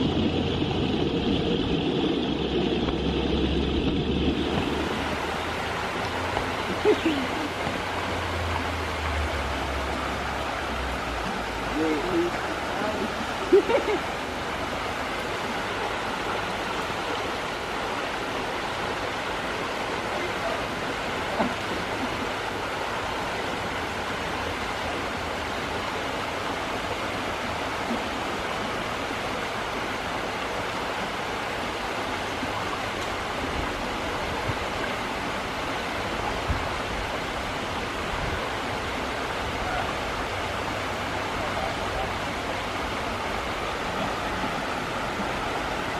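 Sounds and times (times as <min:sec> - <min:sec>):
creek flowing over stones: 0:00.0 - 0:45.9.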